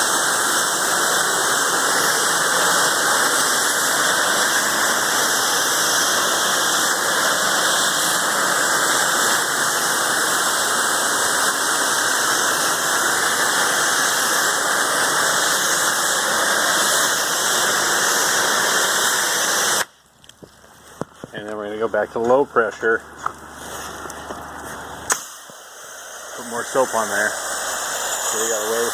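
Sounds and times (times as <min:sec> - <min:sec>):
pressure washer spraying: 0:00.0 - 0:19.9, 0:23.2 - 0:28.9.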